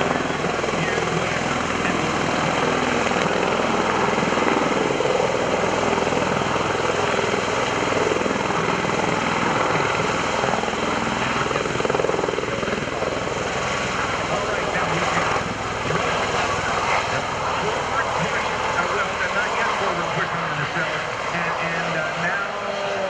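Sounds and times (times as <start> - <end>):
tiltrotor aircraft rotor and turbine: 0.0 - 23.0.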